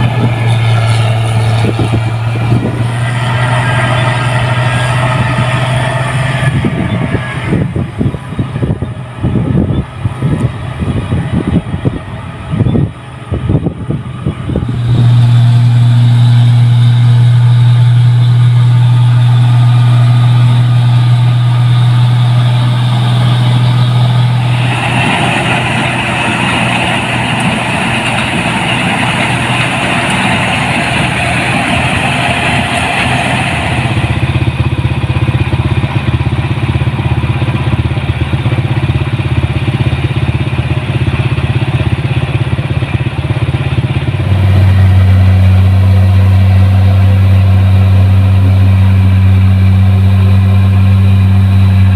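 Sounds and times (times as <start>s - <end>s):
harvester engine droning: 0.0s - 51.9s
machinery rushing and rattling: 0.0s - 51.9s.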